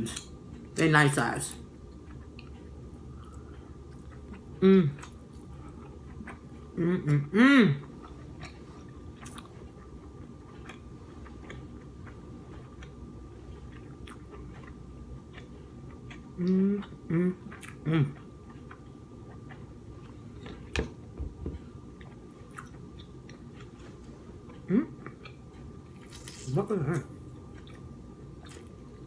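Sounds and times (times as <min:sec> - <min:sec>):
person chewing: 0:01.8 - 0:29.0.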